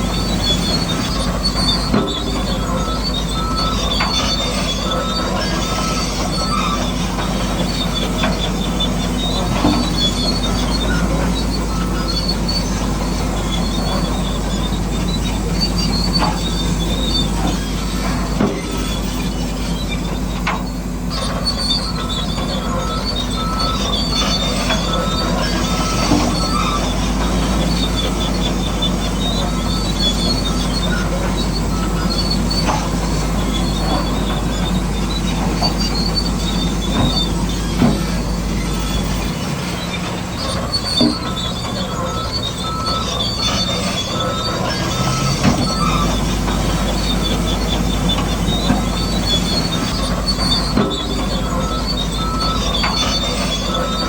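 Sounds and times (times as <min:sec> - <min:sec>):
electric drive and gears whining: 0:00.0 - 0:54.0
tracks squealing: 0:00.0 - 0:54.0.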